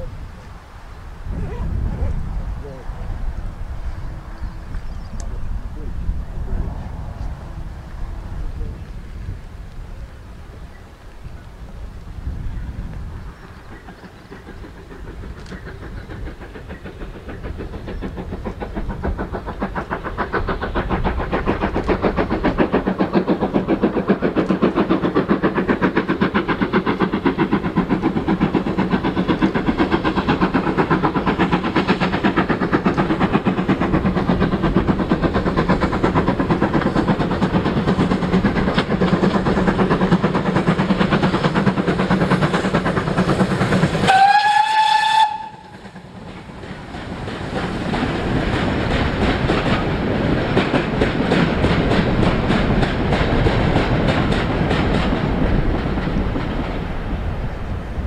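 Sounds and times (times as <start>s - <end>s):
steam locomotive exhaust beats: 0.0s - 58.0s
train running: 0.0s - 58.0s.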